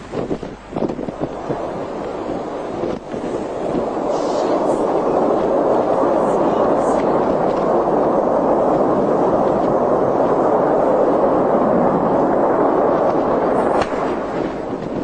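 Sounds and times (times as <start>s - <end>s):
rocket engine roaring: 0.0s - 15.0s.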